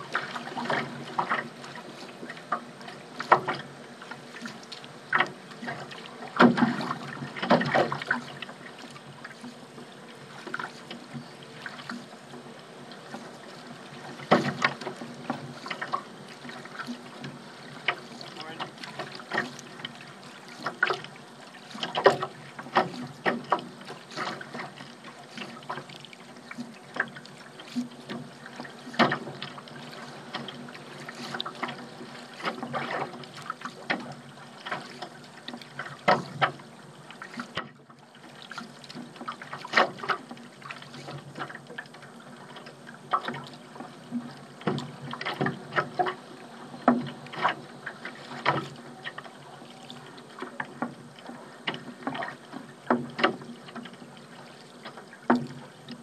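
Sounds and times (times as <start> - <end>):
water splashing against paddled craft: 0.0 - 56.0.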